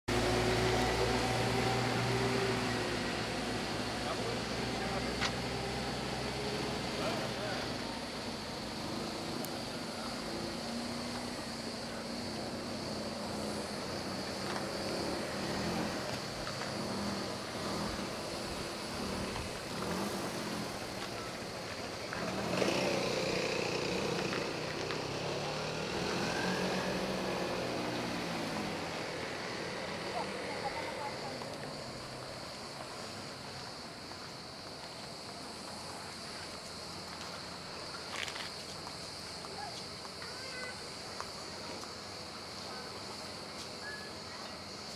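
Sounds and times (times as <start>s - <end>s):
wind: 0.0s - 44.9s
high-pitched hiss: 0.1s - 44.9s.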